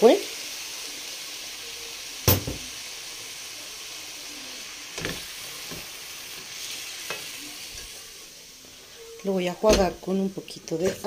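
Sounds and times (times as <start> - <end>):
meat and sauce sizzling in pot: 0.0 - 11.0.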